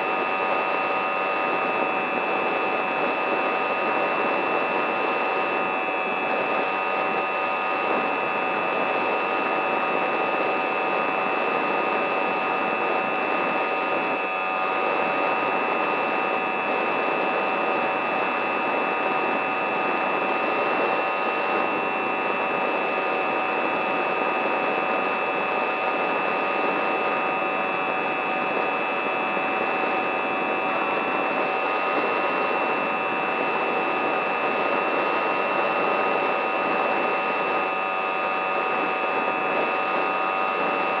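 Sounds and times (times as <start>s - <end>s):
electric model aircraft motor whine: 0.0s - 41.0s.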